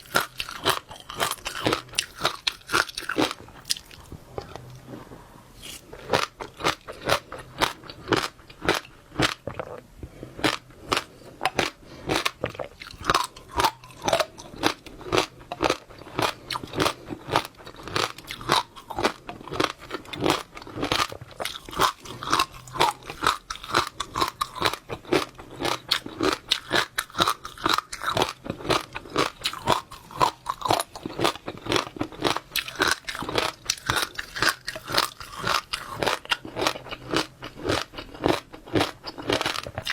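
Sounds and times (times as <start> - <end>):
chewing crunches and pops: 0.0 - 4.6, 10.4 - 39.9.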